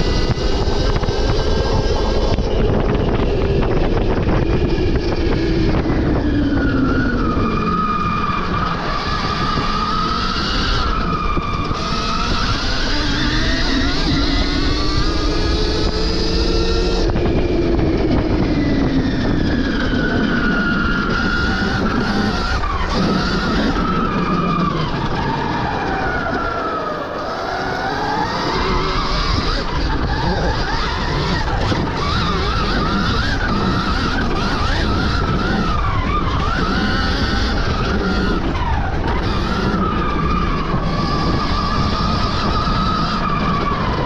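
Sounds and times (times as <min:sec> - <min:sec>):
electric dirt bike motor whining: 0:00.0 - 0:44.0.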